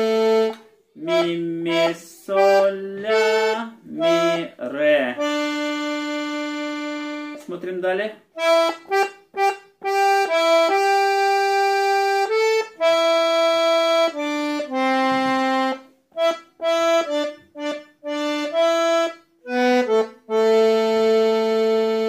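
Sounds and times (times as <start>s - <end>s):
button accordion melody: 0.0s - 22.0s.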